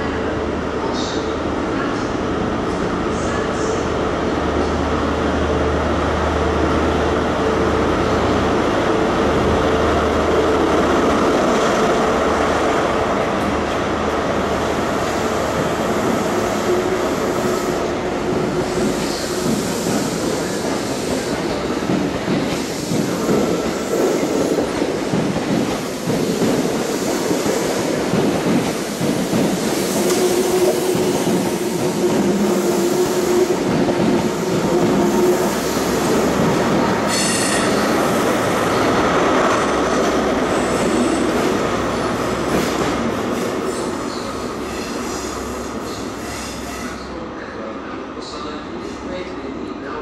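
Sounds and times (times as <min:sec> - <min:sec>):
train wheels rumbling on rail: 0:00.0 - 0:47.6.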